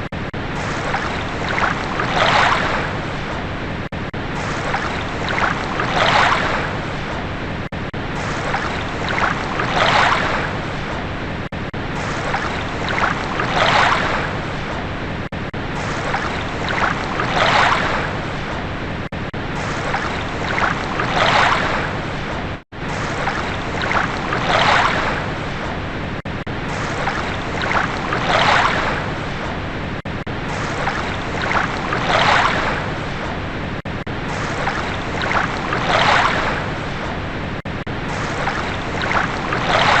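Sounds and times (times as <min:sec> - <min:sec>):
ocean waves washing ashore: 0:00.0 - 0:40.0.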